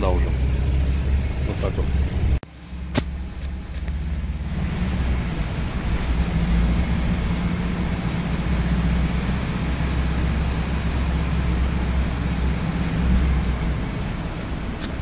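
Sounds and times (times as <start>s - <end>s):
minibus engine drone: 0.0s - 15.0s
road and tyre noise: 0.0s - 15.0s.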